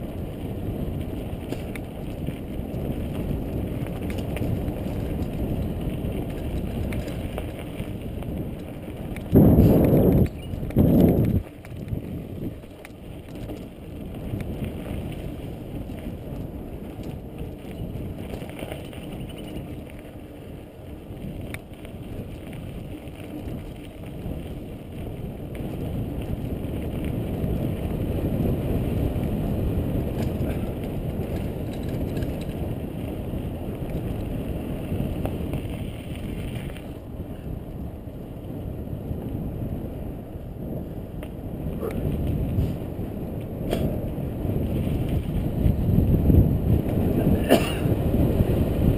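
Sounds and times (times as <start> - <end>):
bicycle tyres rolling on dirt: 0.0 - 48.9
wind on microphone: 0.0 - 48.9.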